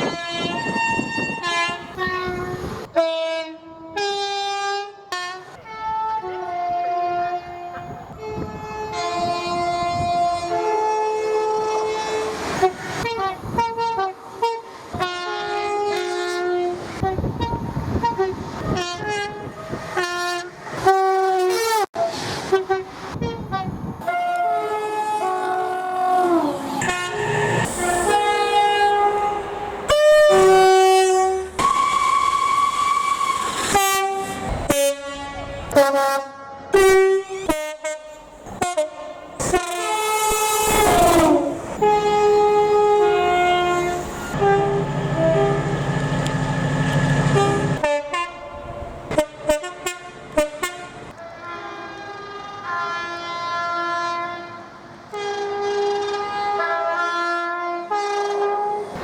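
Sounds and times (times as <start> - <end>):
passing trains rumbling and clattering: 0.0 - 59.0
two-tone train horn blasts: 0.0 - 59.0.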